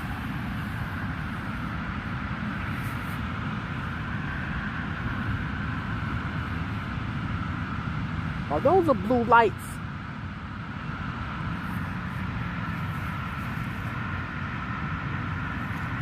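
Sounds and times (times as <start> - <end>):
passing motor vehicle rumble: 0.0 - 16.0.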